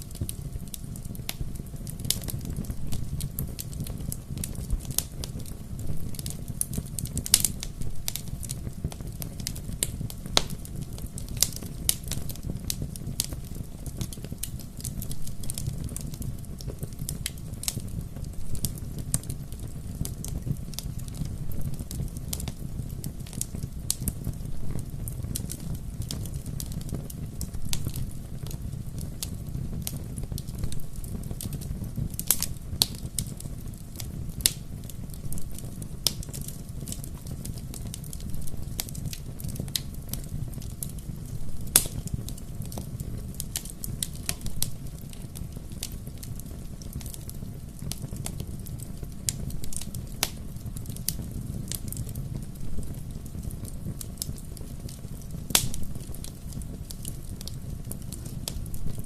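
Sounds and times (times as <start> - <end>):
bonfire crackling: 0.0 - 59.0.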